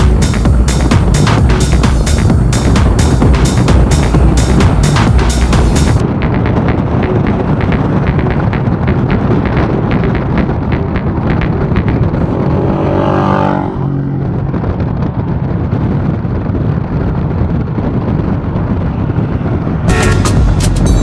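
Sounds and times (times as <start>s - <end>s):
motorcycle engine: 0.0s - 21.0s
wind rush over microphone: 0.0s - 21.0s.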